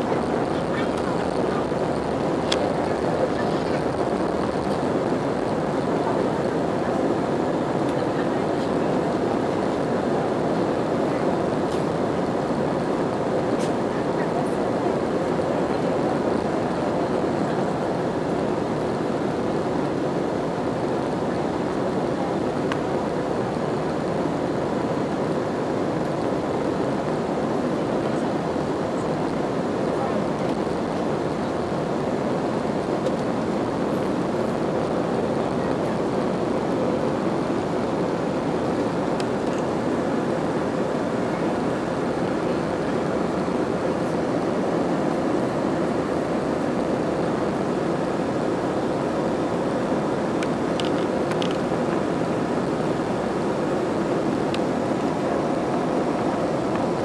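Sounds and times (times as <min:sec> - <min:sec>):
jet engine rushing: 0:00.0 - 0:57.0.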